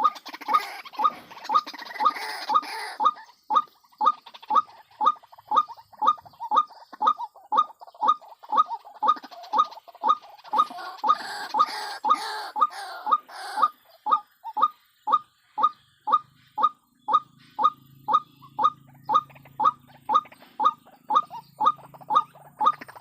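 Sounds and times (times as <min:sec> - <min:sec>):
bird calling short repeated notes: 0:00.0 - 0:23.0.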